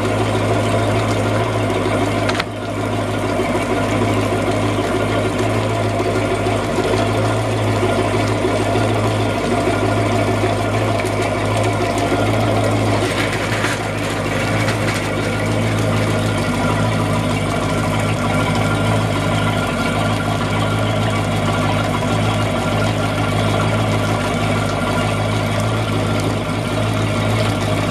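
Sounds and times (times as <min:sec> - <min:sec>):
boat engine idling: 0:00.0 - 0:27.9.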